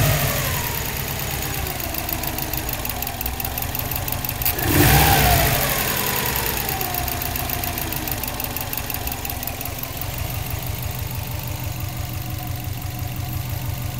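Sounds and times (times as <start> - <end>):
car engine idling after a rev: 0.0 - 13.9
rapid regular ticking: 1.0 - 13.9.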